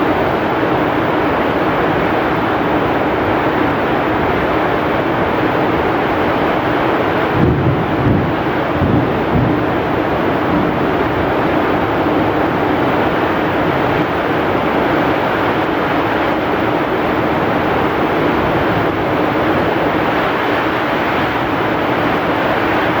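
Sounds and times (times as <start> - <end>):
heavy rain in strong wind: 0.0 - 23.0.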